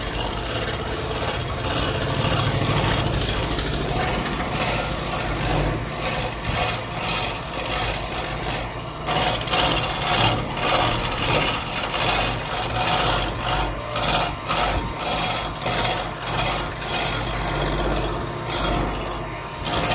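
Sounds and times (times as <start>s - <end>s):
chisel scraping spinning wood: 0.0s - 19.9s
lathe humming: 0.0s - 19.9s.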